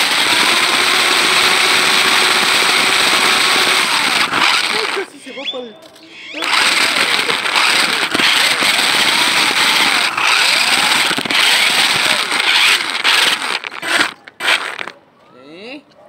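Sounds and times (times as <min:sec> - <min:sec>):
electric motor and gears whining: 0:00.0 - 0:05.6, 0:06.2 - 0:14.9
tyres rattling over rough pavement: 0:00.0 - 0:15.1.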